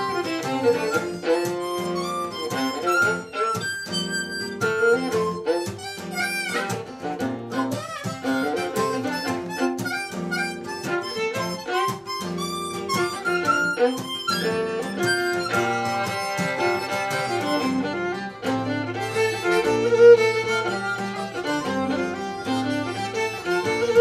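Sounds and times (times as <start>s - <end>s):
acoustic guitar: 0.0s - 24.0s
fiddle: 0.0s - 24.0s
harmonica: 0.0s - 24.0s.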